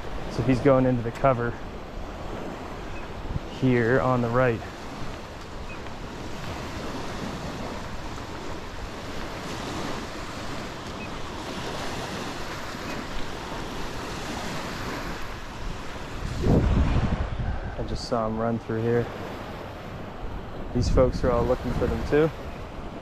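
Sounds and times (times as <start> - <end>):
wind noise on microphone: 0.0 - 18.4, 19.2 - 23.0
small waves breaking on sand: 0.0 - 23.0.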